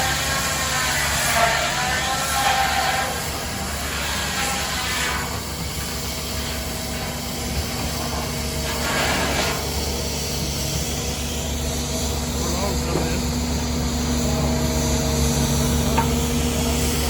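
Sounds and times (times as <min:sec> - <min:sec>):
steam engine humming: 0:00.0 - 0:17.0
steam hissing: 0:00.0 - 0:17.0.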